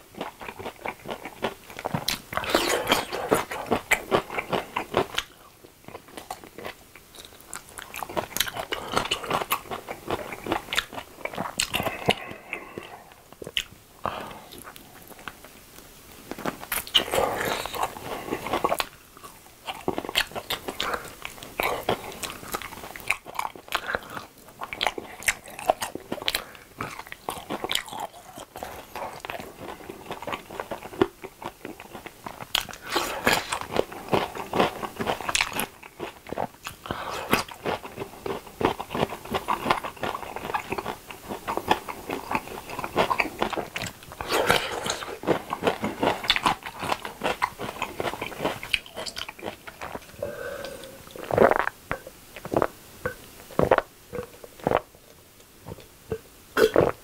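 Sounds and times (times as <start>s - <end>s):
wet chewing and crunchy bites: 0.1s - 13.7s, 16.3s - 51.7s.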